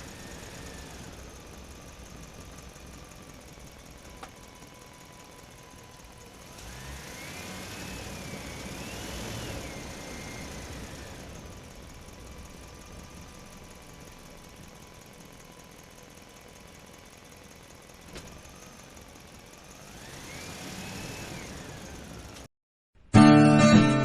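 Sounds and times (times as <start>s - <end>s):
diesel truck engine idling: 0.0s - 22.5s
engine whine: 0.0s - 22.5s.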